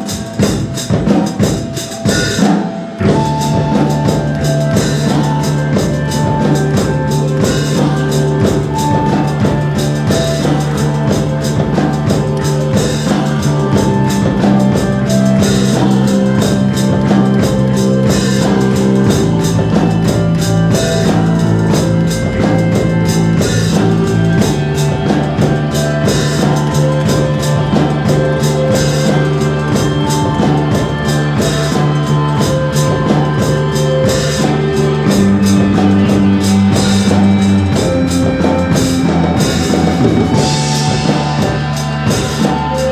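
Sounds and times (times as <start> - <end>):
drum kit: 0.0 - 42.9
held low bass notes: 0.0 - 42.9.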